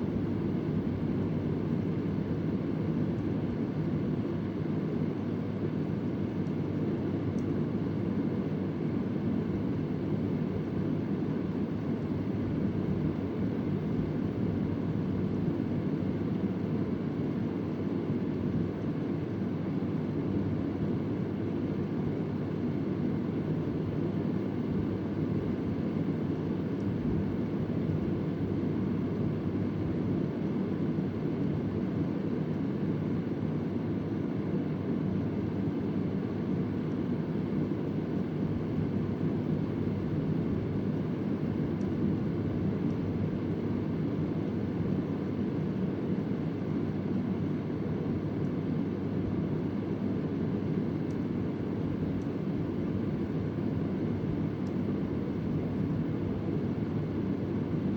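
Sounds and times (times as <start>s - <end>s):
electric fan running: 0.0s - 57.9s.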